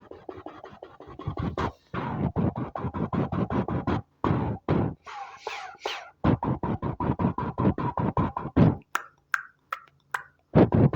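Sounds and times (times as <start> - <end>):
scratch-like effects: 0.0 - 8.8.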